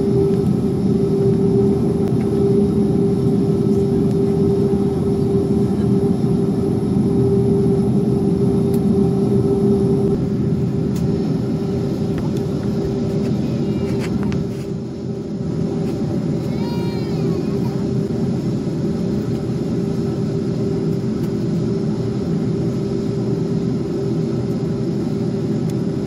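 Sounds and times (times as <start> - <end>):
jet engines droning in cabin: 0.0 - 26.0.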